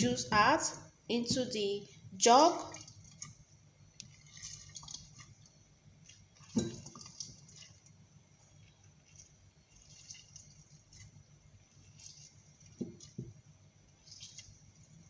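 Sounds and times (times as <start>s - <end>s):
fruit squishing: 2.6s - 15.0s
juice dripping into jar: 2.6s - 15.0s.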